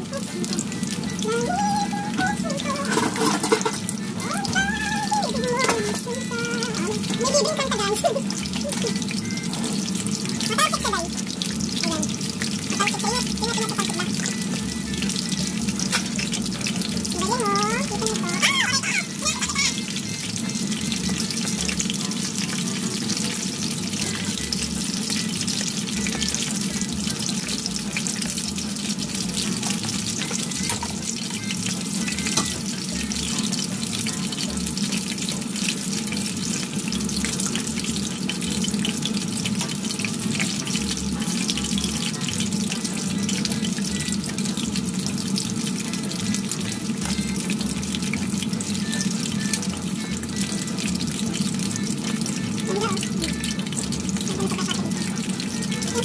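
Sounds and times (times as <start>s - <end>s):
food deep-frying in oil: 0.0s - 56.0s.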